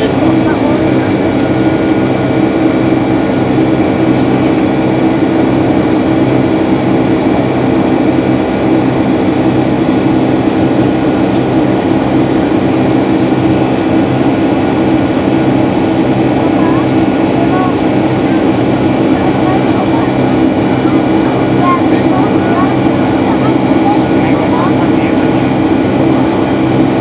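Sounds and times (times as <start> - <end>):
jet engine cabin drone: 0.0 - 27.0.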